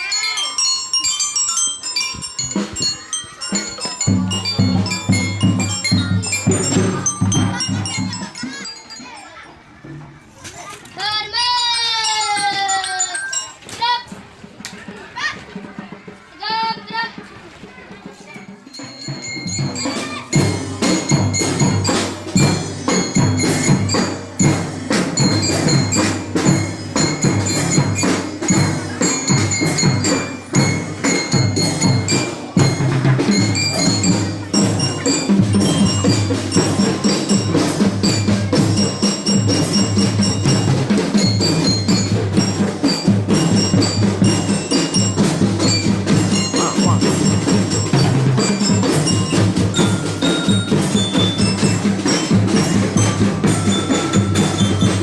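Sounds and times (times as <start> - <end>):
glockenspiel melody: 0.0 - 9.9, 11.3 - 14.1, 18.5 - 55.0
marching drums beat: 2.4 - 8.7, 14.2 - 55.0.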